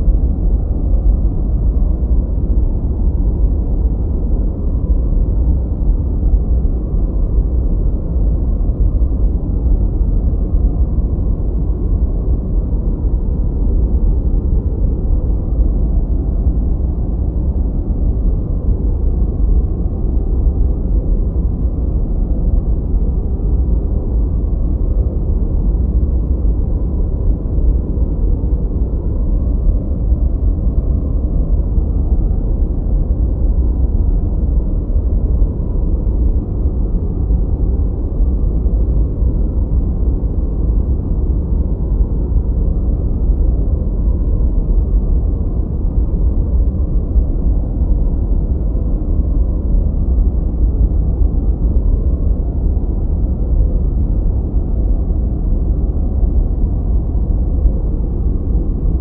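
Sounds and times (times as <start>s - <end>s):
dark white noise rush: 0.0s - 59.0s.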